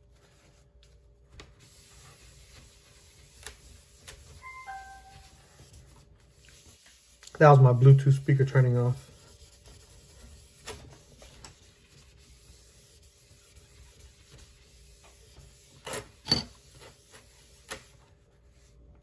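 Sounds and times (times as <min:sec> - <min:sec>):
paper towel scrubbing glass: 0:00.0 - 0:18.8.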